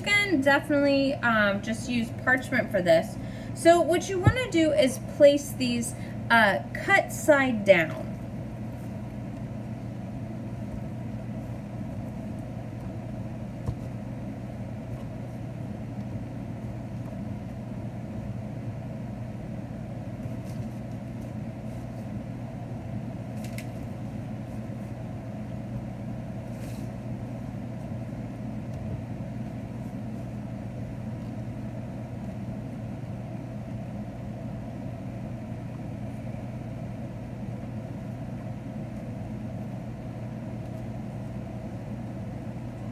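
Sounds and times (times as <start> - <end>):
low mechanical hum: 0.0 - 42.9.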